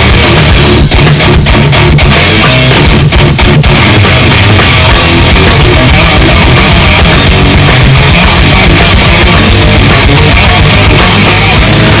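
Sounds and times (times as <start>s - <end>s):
distorted electric guitar: 0.0s - 12.0s
drum kit: 0.0s - 12.0s
hard rock music: 0.0s - 12.0s.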